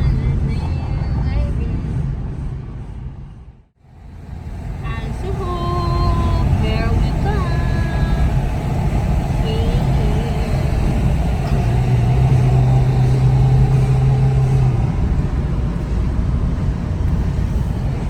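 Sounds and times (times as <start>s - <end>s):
car engine and road rumble: 0.0s - 18.0s
low hum: 0.0s - 18.0s.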